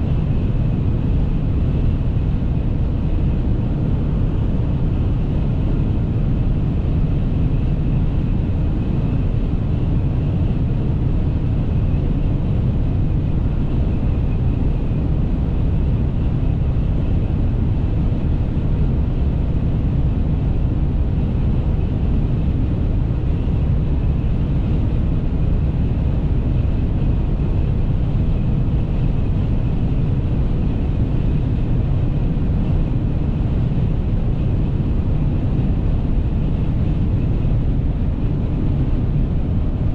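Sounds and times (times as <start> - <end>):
car interior engine and wind drone: 0.0 - 39.9.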